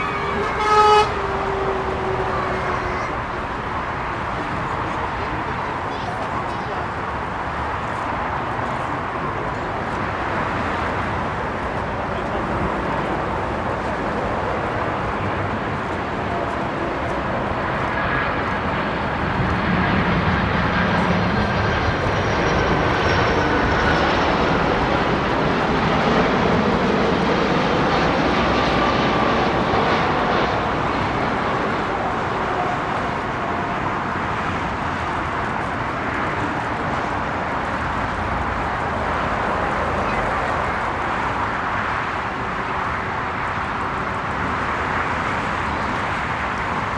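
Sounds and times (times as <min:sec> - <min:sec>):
jet plane passing by: 0:00.0 - 0:46.9.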